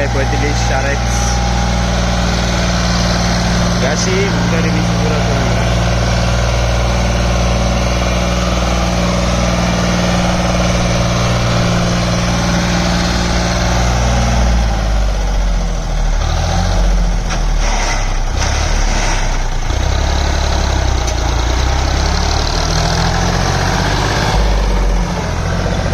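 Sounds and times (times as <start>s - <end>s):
engine clatters: 0.0s - 25.9s
tractor diesel engine running: 0.0s - 25.9s.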